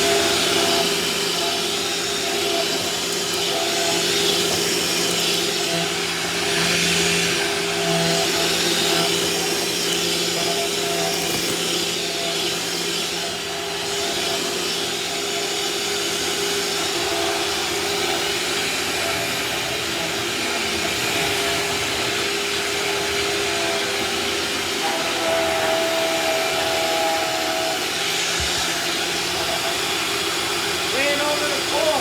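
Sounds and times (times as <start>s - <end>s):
vacuum cleaner running: 0.0s - 32.0s.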